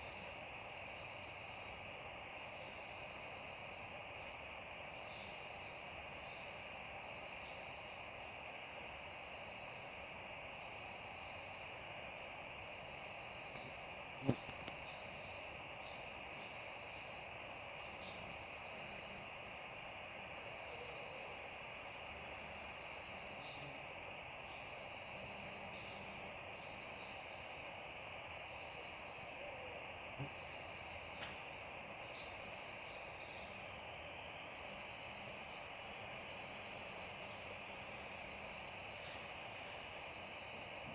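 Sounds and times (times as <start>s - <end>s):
crickets trilling: 0.0s - 40.9s
insect chirps: 0.0s - 40.9s.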